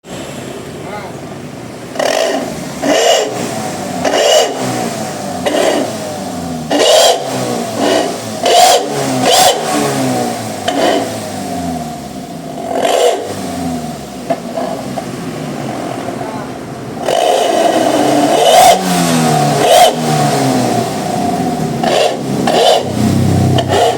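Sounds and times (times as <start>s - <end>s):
van engine revving: 0.0s - 23.9s.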